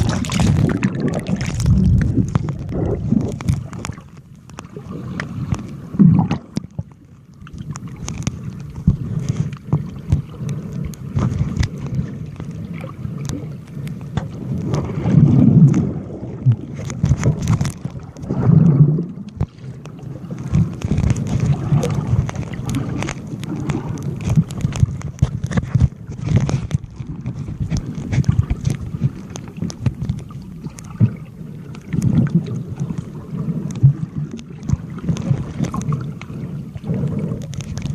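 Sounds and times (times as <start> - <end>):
muffled water sloshing: 0.0 - 37.9.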